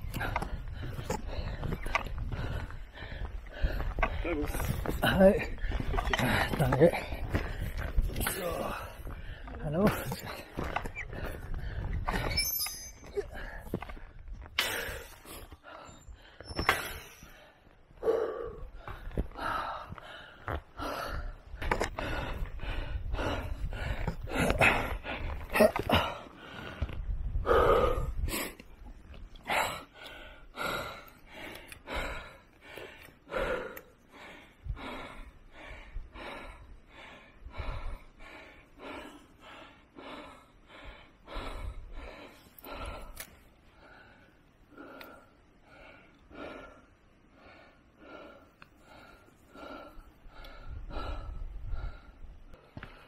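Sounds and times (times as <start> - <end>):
person breathing hard: 0.0 - 12.4, 13.0 - 53.0.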